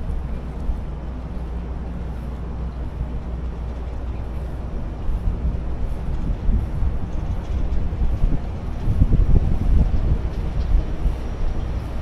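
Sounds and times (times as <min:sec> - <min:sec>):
ship rumbling: 0:00.0 - 0:12.0
wind buffeting microphone: 0:00.0 - 0:12.0.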